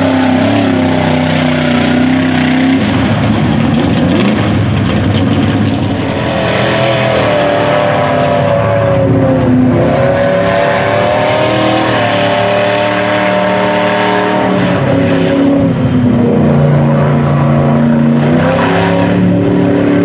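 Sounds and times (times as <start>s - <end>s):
truck engine revving high: 0.0s - 20.0s.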